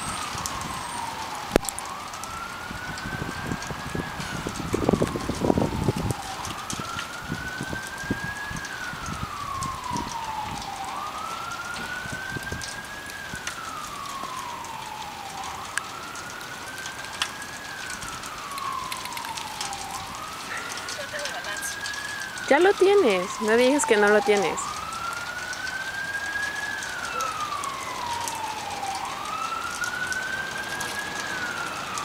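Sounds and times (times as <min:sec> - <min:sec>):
emergency siren wailing: 0:00.0 - 0:32.0.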